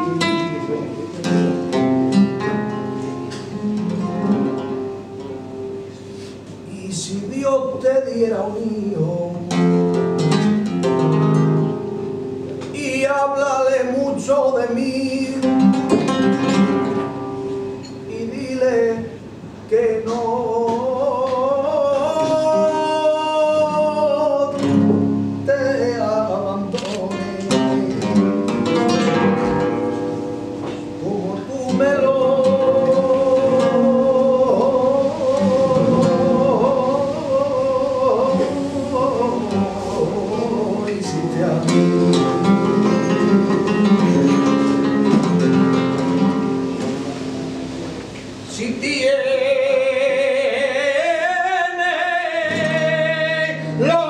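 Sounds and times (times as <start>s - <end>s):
acoustic guitar plucking and strumming: 0.0s - 54.0s
man singing flamenco: 0.0s - 54.0s.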